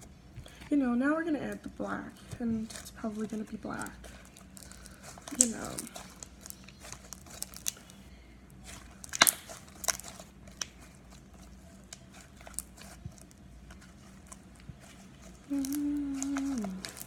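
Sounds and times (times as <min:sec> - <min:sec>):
slime squished by hand: 0:01.5 - 0:17.0.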